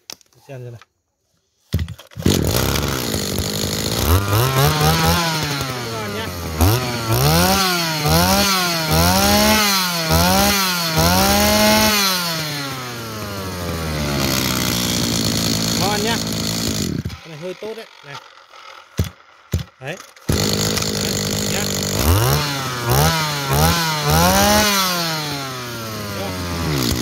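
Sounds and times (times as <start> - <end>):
brush cutter engine revving: 2.1 - 27.0.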